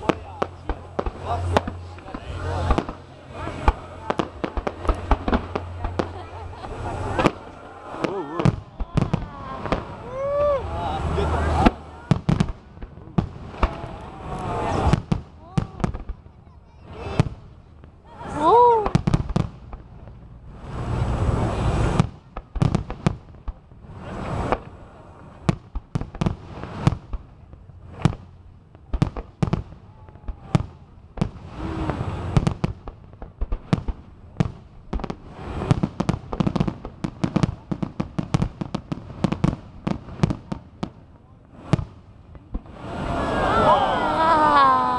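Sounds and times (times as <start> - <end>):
fireworks bangs: 0.0 - 44.9
fireworks rushing bursts: 0.0 - 44.9.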